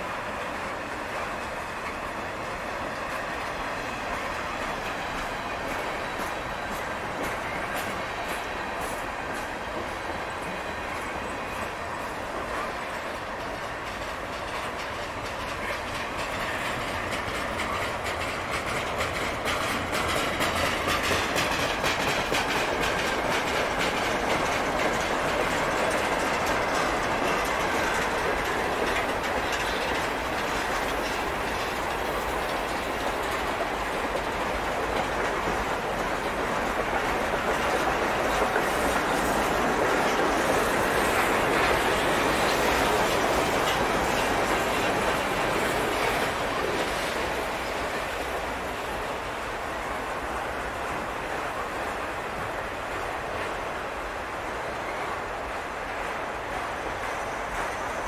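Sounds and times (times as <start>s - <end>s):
freight train wheels rolling on rails: 0.0s - 58.0s
wheels clicking over rail joints: 0.0s - 58.0s.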